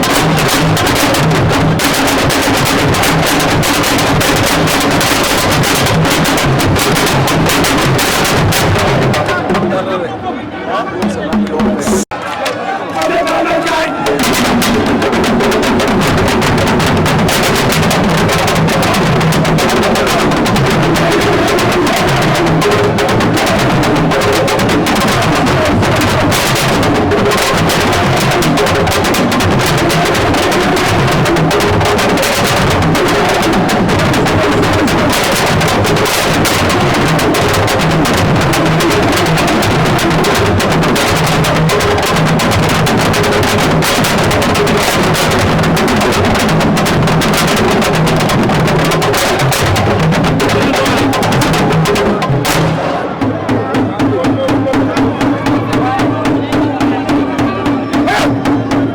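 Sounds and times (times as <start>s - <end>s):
loud dense drumming music: 0.0s - 9.8s, 11.0s - 12.1s, 13.0s - 58.9s.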